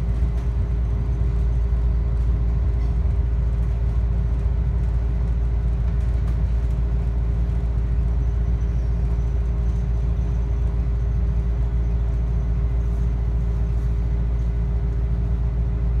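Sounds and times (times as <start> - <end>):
constant hum: 0.0 - 16.0
railcar rumbling inside carriage: 0.0 - 16.0.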